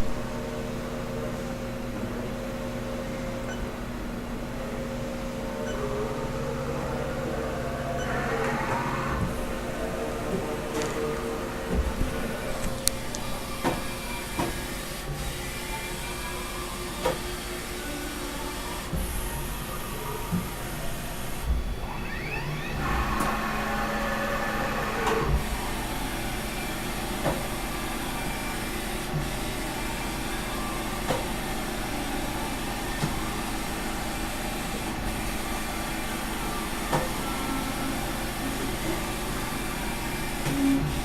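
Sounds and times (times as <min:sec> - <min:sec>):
machine hum and whine: 0:00.0 - 0:41.0.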